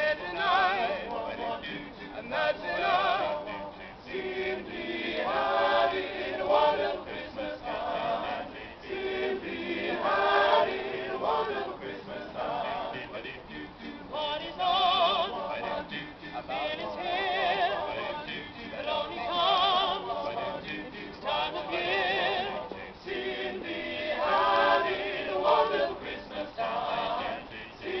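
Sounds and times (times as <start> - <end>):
small choir singing a carol: 0.0 - 28.0.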